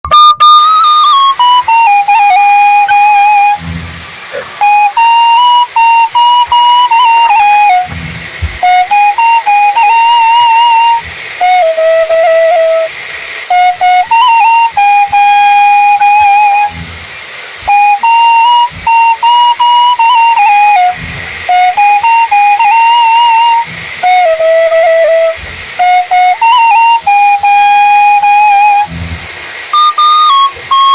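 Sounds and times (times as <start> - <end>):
flute-like melody: 0.0 - 30.9
steady hiss: 0.5 - 30.9.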